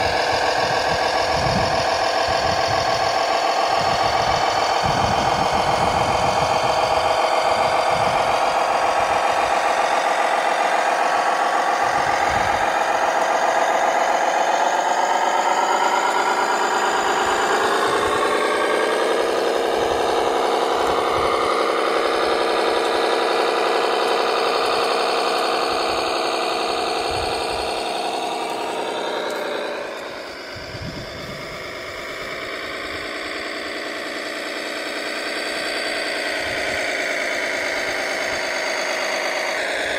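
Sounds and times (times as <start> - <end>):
model machine engine drone: 0.0 - 39.9.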